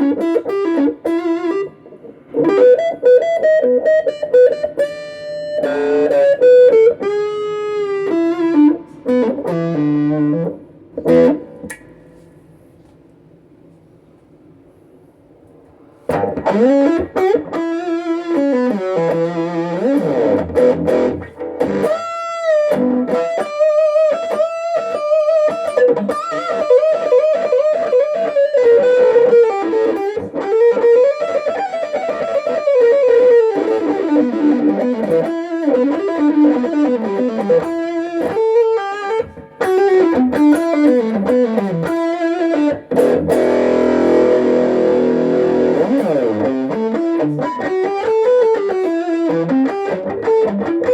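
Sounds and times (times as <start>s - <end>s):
electric guitar lead line: 0.0s - 12.9s, 16.0s - 50.9s.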